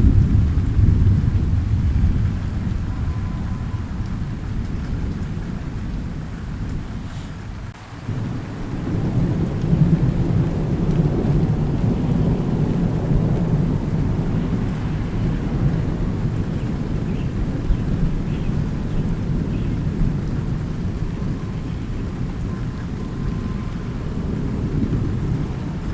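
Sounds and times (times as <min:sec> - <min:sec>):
steady rain: 0:00.0 - 0:25.9
thunder rumbling: 0:00.0 - 0:25.9.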